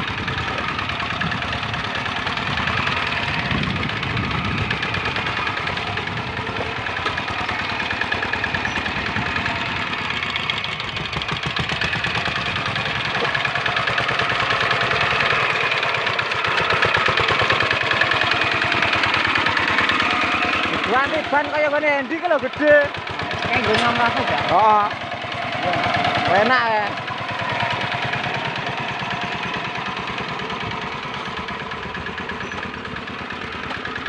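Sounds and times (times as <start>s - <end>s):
diesel engine running: 0.0s - 34.0s
wheels churning through water: 0.0s - 34.0s.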